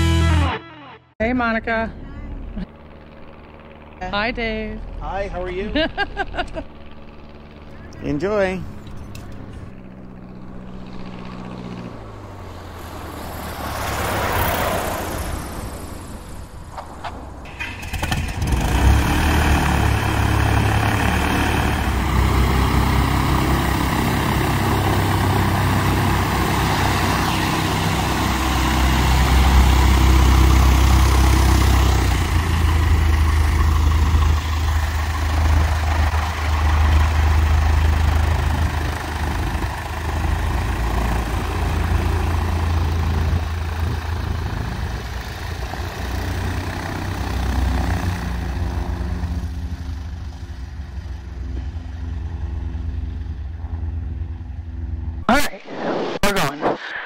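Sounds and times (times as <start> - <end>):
light aircraft engine taxiing: 1.2 - 55.2.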